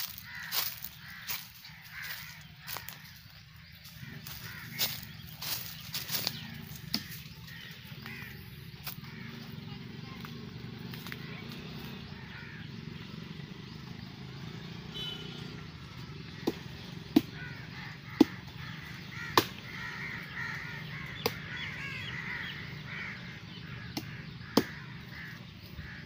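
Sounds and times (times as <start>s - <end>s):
birds chirping: 0.0s - 26.0s
outdoor background noise: 0.0s - 26.0s.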